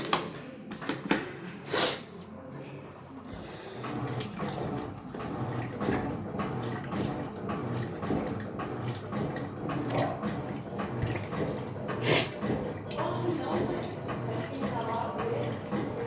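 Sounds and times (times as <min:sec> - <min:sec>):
washing machine low hum: 0:02.6 - 0:16.0
washing machine water sloshing: 0:02.9 - 0:16.0.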